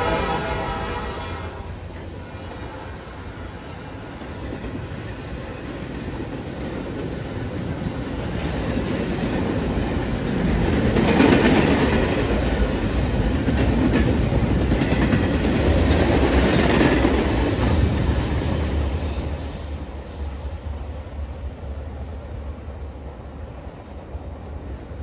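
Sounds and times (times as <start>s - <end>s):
train wheels rumbling and clacking: 0.0s - 25.0s.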